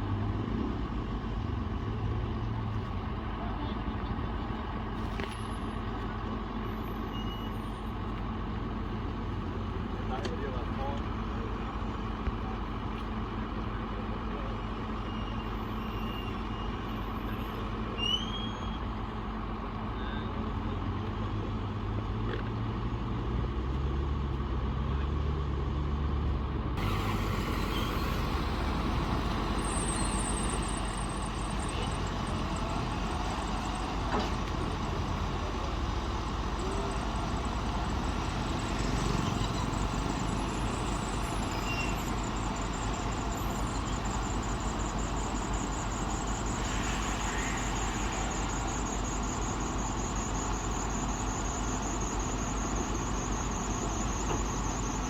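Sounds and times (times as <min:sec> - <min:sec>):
bulldozer diesel engine rumbling: 0:00.0 - 0:55.0.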